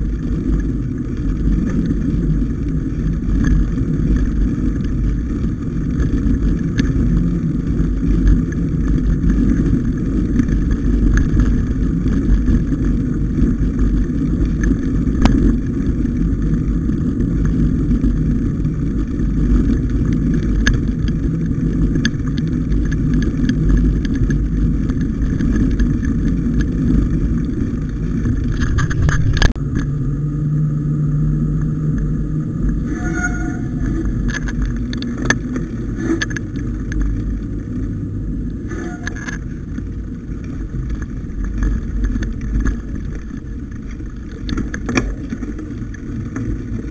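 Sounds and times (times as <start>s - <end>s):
wind and ride rumble: 0.0s - 46.9s.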